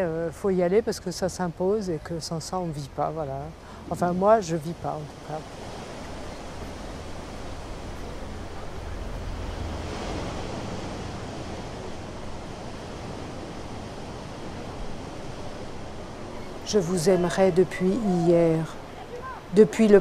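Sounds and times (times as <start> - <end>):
sea surf rushing: 1.4 - 20.0.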